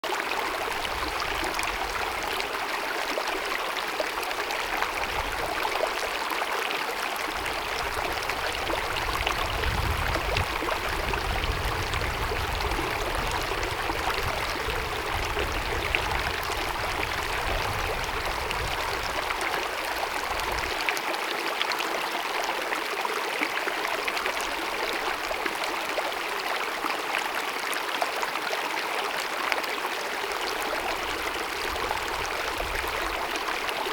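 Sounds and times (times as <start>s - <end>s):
stream babbling over rocks: 0.0s - 33.9s.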